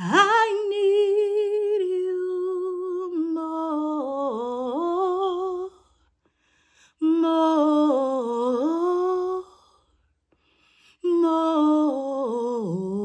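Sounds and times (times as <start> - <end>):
woman singing unaccompanied: 0.0 - 6.0, 7.0 - 9.6, 11.0 - 13.0.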